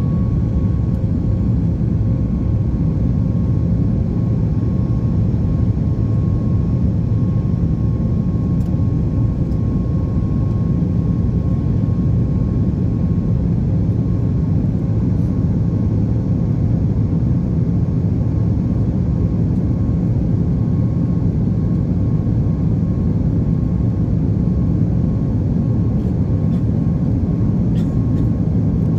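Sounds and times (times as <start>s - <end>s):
faint jet engine whine: 0.0s - 28.9s.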